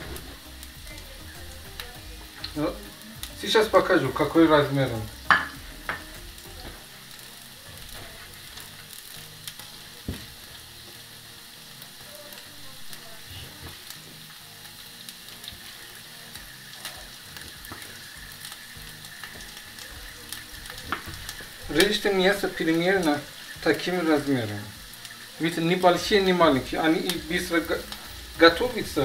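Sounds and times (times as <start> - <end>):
onions sizzling in a pan: 0.0 - 29.0.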